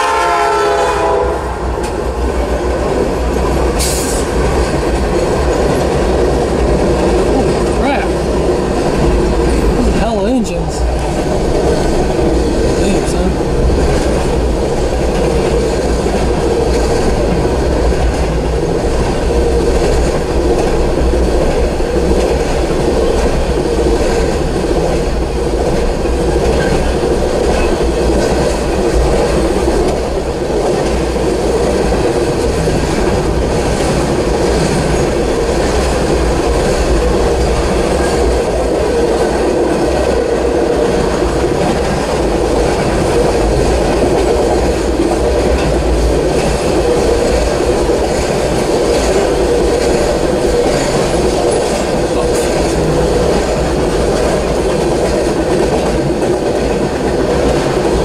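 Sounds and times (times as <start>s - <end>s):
clickety-clack of rail joints: 0.0s - 58.0s
rumble of train wheels on rail: 0.0s - 58.0s.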